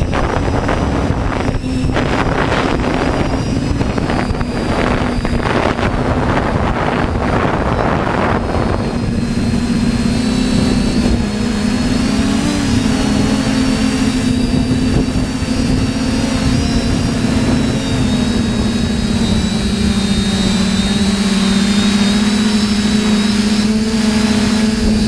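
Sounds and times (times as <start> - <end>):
drone propellers whining: 0.0 - 25.0
wind on microphone: 0.0 - 25.0.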